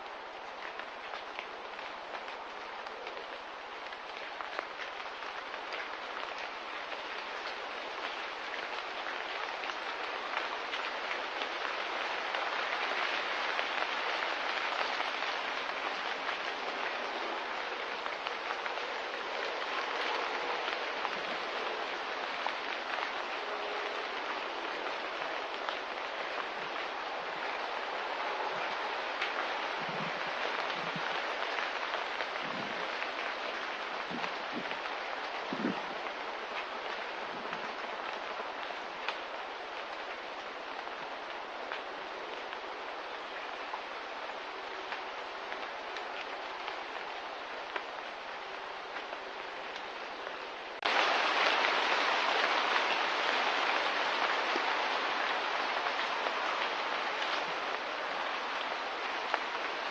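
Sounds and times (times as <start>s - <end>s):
light rain hissing: 0.0s - 59.9s.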